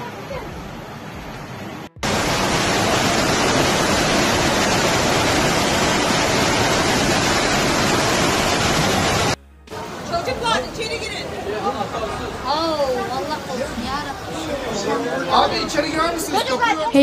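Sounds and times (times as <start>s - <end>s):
floodwater rushing over wall: 0.0s - 17.0s.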